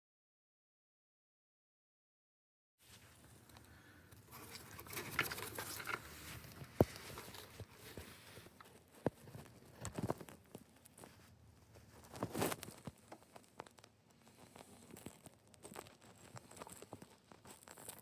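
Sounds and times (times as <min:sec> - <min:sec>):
rustling and crinkling: 0:02.8 - 0:18.0.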